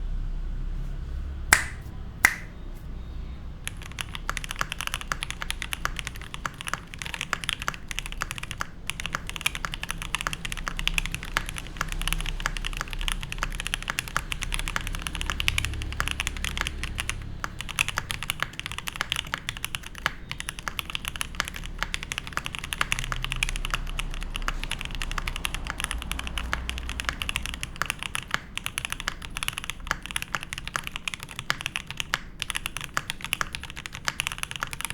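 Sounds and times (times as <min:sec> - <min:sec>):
sharp clicks: 0:01.5 - 0:02.6, 0:03.7 - 0:34.9
mechanical keyboard typing: 0:03.7 - 0:34.9.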